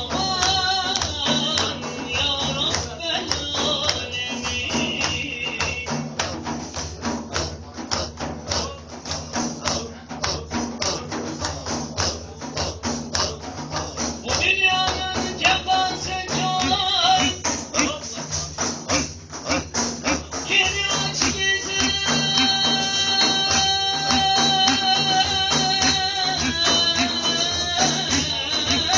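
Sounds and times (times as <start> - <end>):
jingling hand drum: 0.0 - 28.9.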